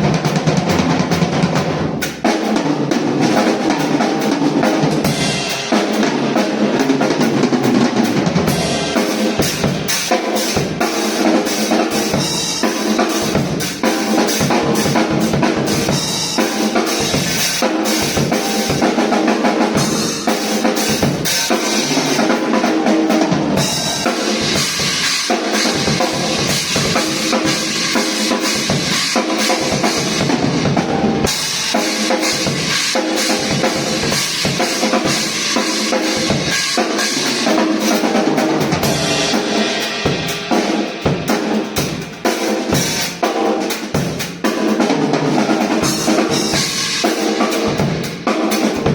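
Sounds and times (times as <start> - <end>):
acoustic drum kit playing: 0.0 - 48.9.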